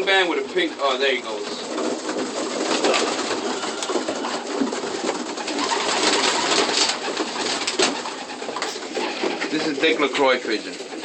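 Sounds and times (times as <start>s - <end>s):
pigeon wings flapping: 0.0s - 11.0s
pigeons cooing: 0.0s - 11.0s
pigeons scuffling: 0.0s - 11.0s.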